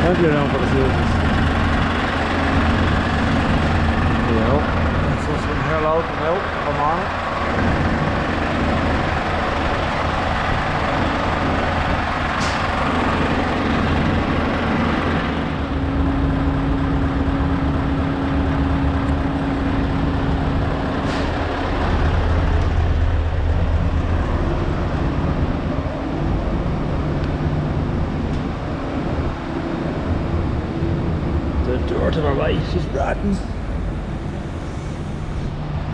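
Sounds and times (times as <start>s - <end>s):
steady hum: 0.0s - 35.9s
truck engine rumbling: 0.0s - 35.9s.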